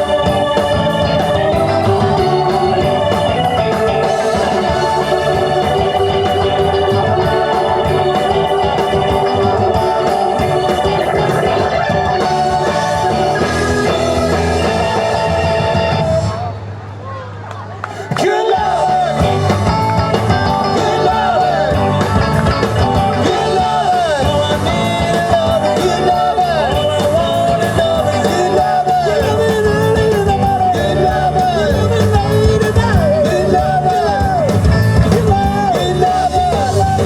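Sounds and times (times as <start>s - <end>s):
lead vocal singing: 0.0s - 16.4s, 17.9s - 37.0s
live rock band playing: 0.0s - 16.9s, 18.0s - 37.0s.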